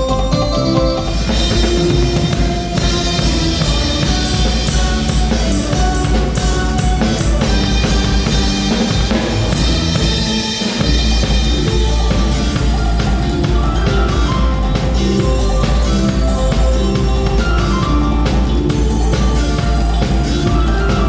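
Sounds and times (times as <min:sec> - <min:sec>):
bass guitar: 0:00.0 - 0:21.0
drum kit beat: 0:00.0 - 0:21.0
keyboards: 0:00.0 - 0:21.0.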